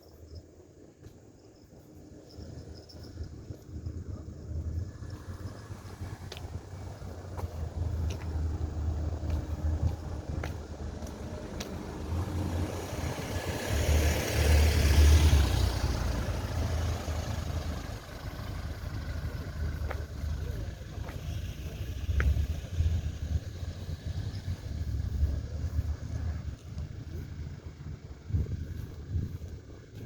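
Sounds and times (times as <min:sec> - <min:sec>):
low rumble: 0:01.6 - 0:13.2, 0:15.9 - 0:30.0
car passing by: 0:04.7 - 0:30.0.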